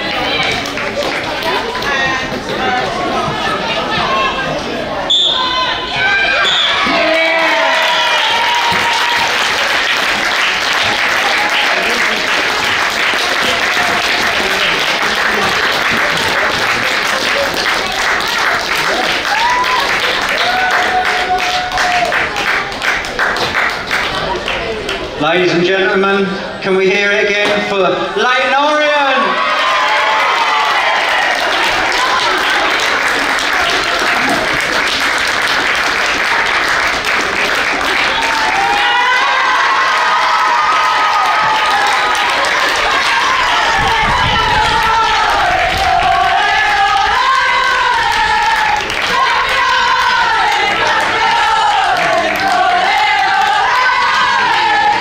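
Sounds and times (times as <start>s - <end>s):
crowd applauding: 0.0s - 3.1s, 6.3s - 25.2s, 29.3s - 55.0s.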